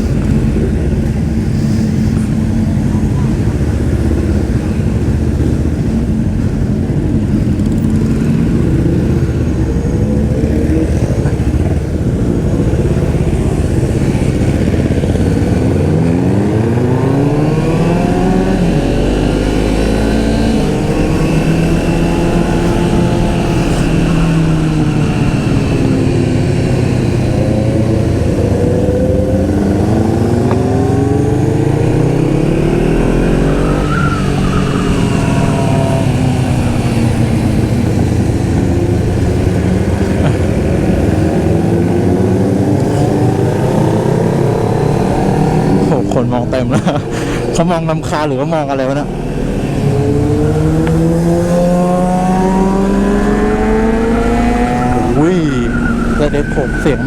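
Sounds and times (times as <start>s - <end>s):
motorcycle engine accelerating: 0.0s - 57.0s
wind on microphone: 0.0s - 57.0s.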